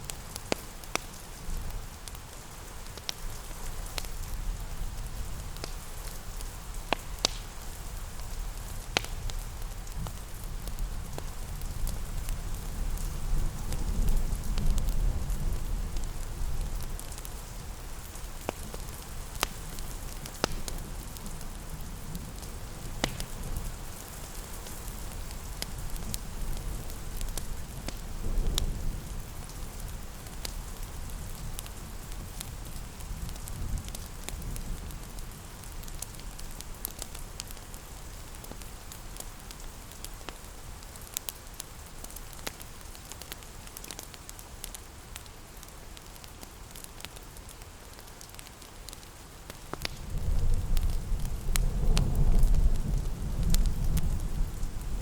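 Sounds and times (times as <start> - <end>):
steady rain hiss: 0.0 - 55.0
wood fire crackling: 0.0 - 55.0.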